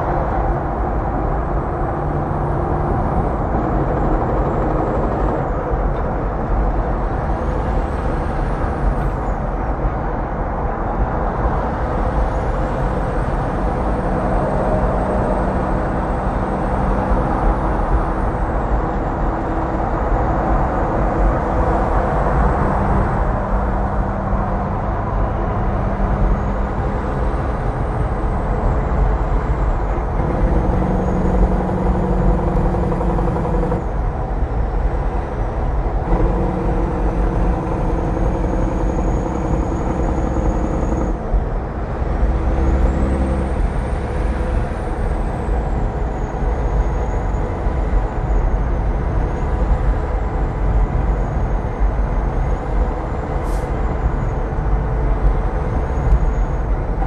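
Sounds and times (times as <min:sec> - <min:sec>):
diesel truck engine drone: 0:00.0 - 0:57.0
tyre and wind roar: 0:00.0 - 0:57.0.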